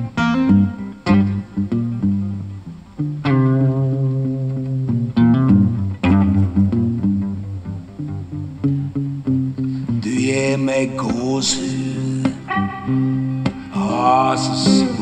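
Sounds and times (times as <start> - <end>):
guitar-led music with bass: 0.0 - 15.0.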